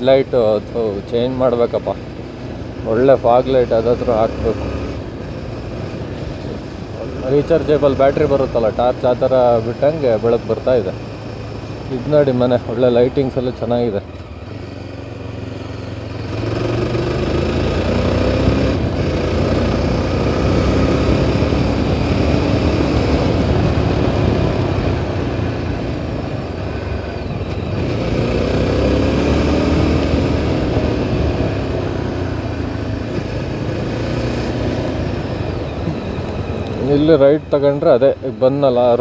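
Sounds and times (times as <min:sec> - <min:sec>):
motorcycle engine running: 0:00.0 - 0:39.0
road noise: 0:00.0 - 0:39.0.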